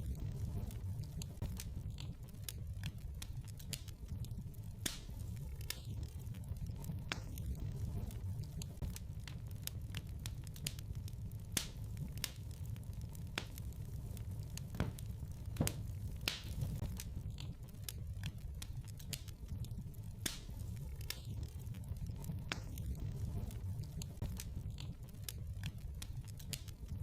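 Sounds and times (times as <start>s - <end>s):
fire crackles and pops: 0.0s - 27.0s
low rumble of flames: 0.0s - 27.0s.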